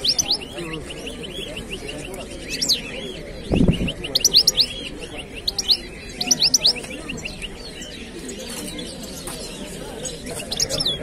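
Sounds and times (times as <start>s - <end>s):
finches chirping and twittering: 0.0s - 11.0s.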